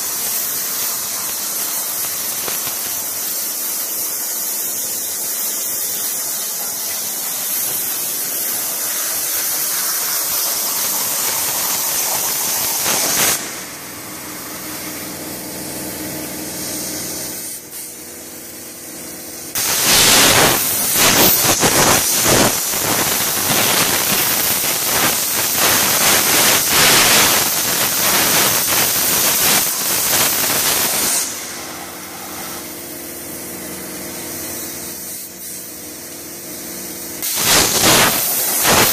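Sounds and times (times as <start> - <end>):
plasma torch hissing: 0.0 - 15.2, 16.3 - 18.1, 19.5 - 32.9, 33.6 - 35.8, 37.1 - 38.9.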